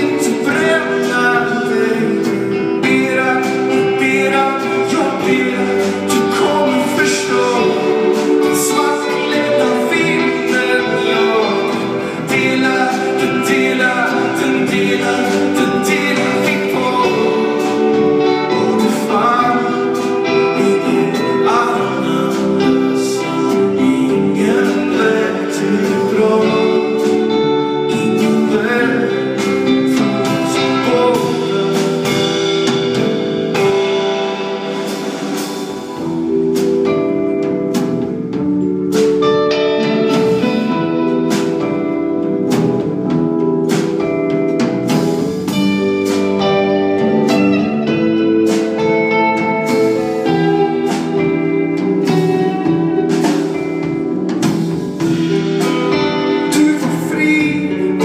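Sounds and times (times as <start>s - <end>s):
drum kit: 0.0s - 58.0s
guitars: 0.0s - 58.0s
keyboard: 0.0s - 58.0s
person singing: 0.0s - 58.0s.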